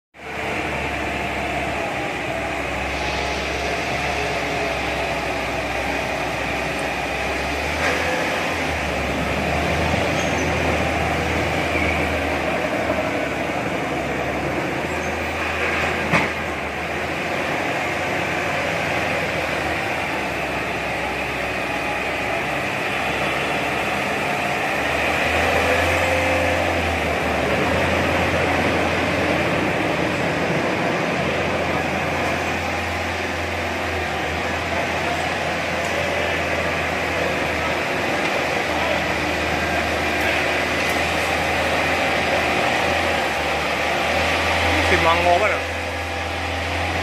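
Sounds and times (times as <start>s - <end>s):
bulldozer diesel engine rumbling: 0.2s - 47.0s.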